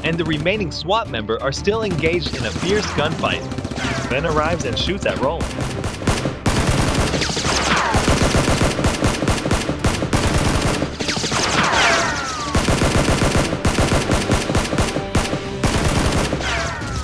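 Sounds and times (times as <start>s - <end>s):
rapid automatic gunfire: 2.3s - 4.5s, 5.2s - 16.7s.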